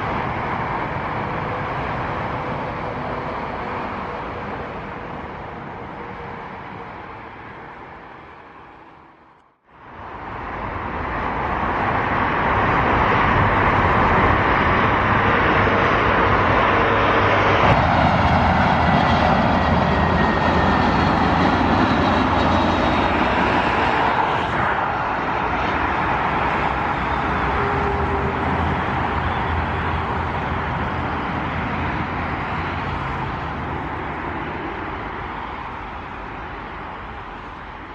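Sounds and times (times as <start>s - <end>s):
jet engines rushing past: 0.0s - 37.9s.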